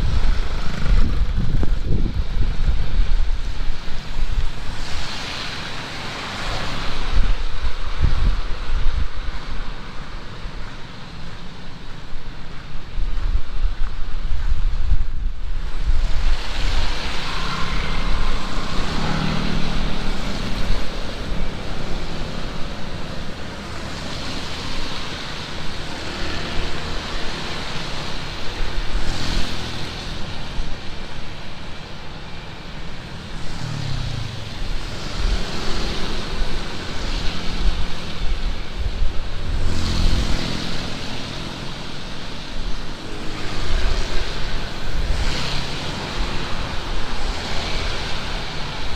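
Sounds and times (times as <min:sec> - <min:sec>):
gusts of wind: 0:00.0 - 0:48.9
heavy rain pouring: 0:00.0 - 0:48.9.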